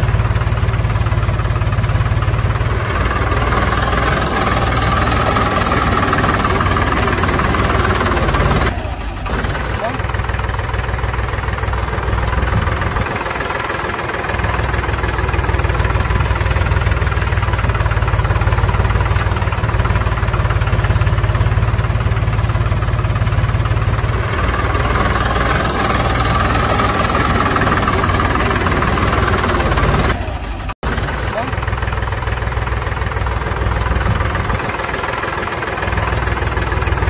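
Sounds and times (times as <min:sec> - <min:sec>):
tractor engine idling: 0:00.0 - 0:37.0.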